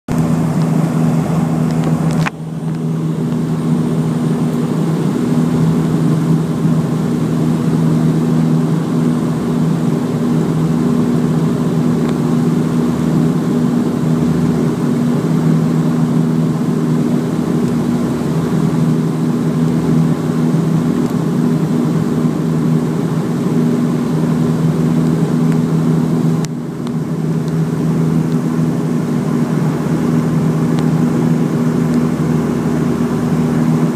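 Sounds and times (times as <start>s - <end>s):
aircraft engines humming: 0.1s - 33.9s.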